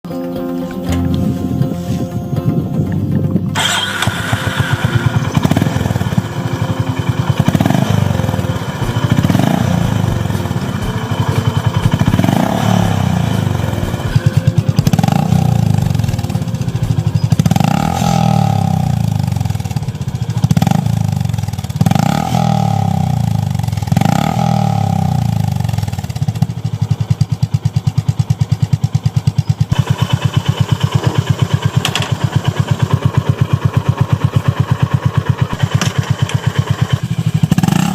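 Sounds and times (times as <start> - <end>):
engine idling: 0.3 - 37.9
motorcycle engine revving: 0.5 - 37.9.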